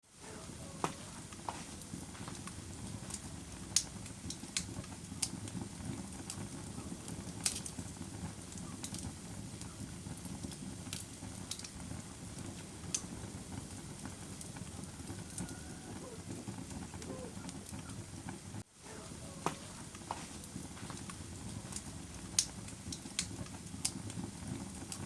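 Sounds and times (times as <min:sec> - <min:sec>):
fire crackling and popping: 0:00.1 - 0:25.0
low rumble of flames: 0:00.1 - 0:25.0.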